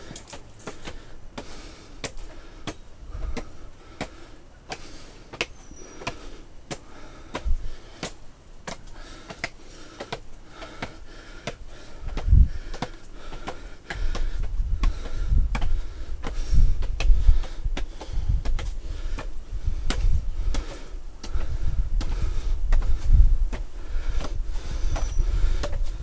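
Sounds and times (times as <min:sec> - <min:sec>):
footsteps on rocky trail: 0:00.0 - 0:26.0.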